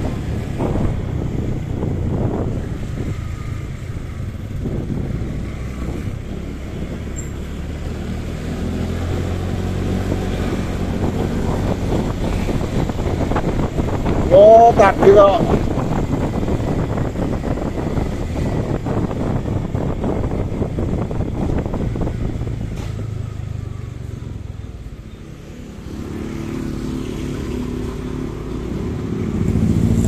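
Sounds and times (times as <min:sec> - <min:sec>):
wind rumbling on microphone: 0:00.0 - 0:24.9
engine hum with clear pitch: 0:00.0 - 0:30.0
motorcycle engine: 0:00.0 - 0:30.0
passing traffic: 0:00.0 - 0:30.0.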